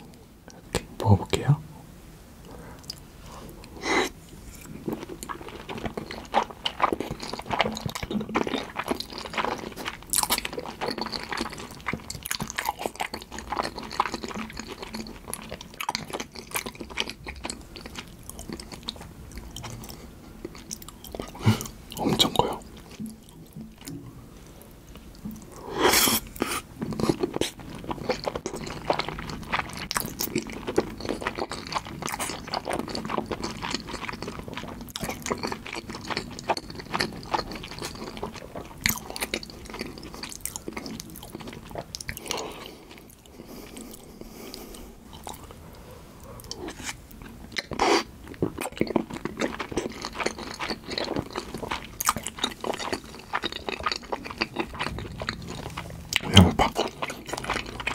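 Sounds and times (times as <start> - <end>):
wet chewing mouth sounds: 2.8 - 24.0, 24.9 - 57.9.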